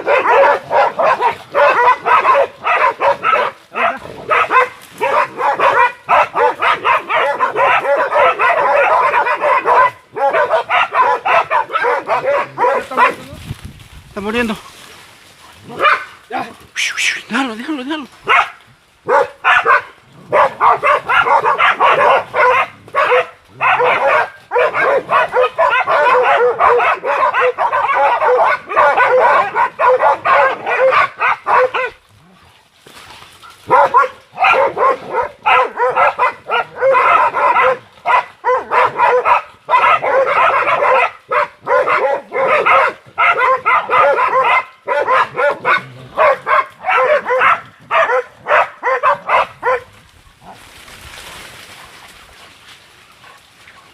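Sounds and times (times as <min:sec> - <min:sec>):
dogs barking and yelping: 0:00.0 - 0:13.4, 0:15.6 - 0:17.5, 0:18.2 - 0:32.0, 0:33.4 - 0:49.9.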